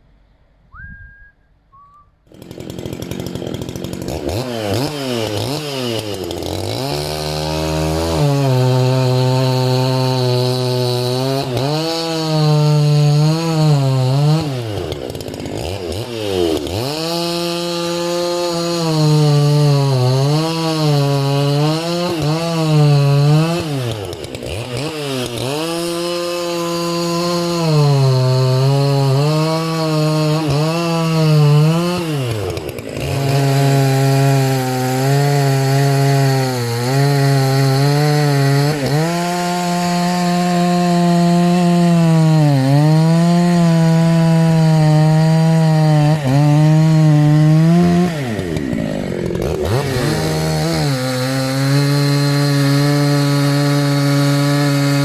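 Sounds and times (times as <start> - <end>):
chainsaw cutting wood: 2.2 - 55.0.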